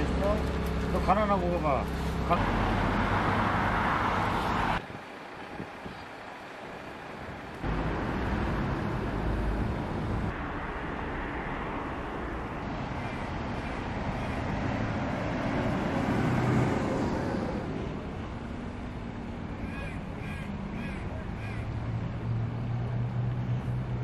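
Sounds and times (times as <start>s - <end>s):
cars and buses passing: 0.0s - 24.0s.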